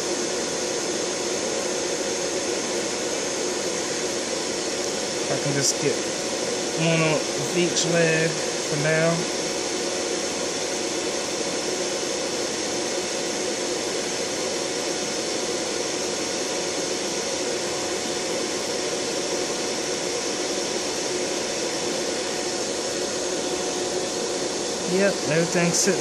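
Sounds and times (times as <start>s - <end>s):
large fan rushing: 0.0s - 26.0s.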